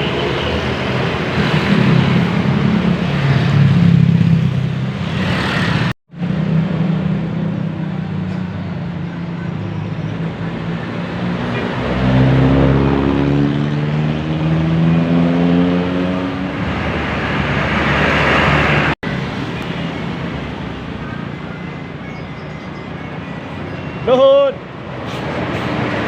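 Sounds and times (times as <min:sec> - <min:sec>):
bus passing by: 0:00.0 - 0:26.0
road noise: 0:00.0 - 0:26.0.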